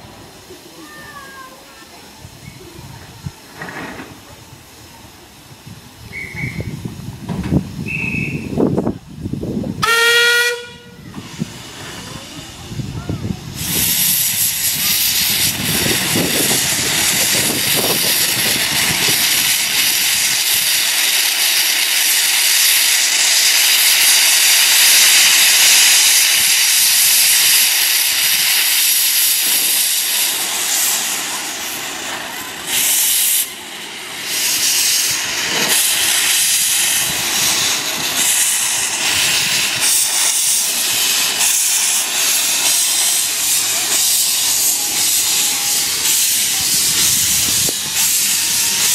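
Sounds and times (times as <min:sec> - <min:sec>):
steam locomotive hissing: 0:00.0 - 0:48.9.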